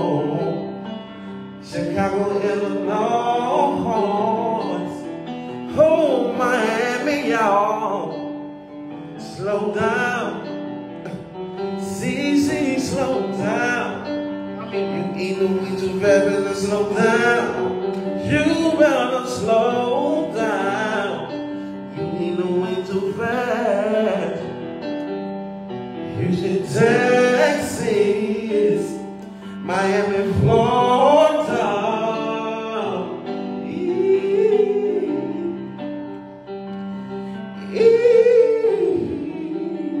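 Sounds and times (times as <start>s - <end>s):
man singing soul song: 0.0s - 25.2s, 26.0s - 35.9s, 37.3s - 40.0s
piano accompaniment: 0.0s - 40.0s.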